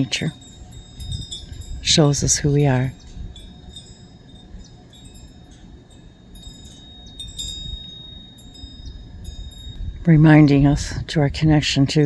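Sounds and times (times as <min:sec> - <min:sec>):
high ringing chime tones: 0:00.0 - 0:10.8
low steady background rumble: 0:00.0 - 0:12.0.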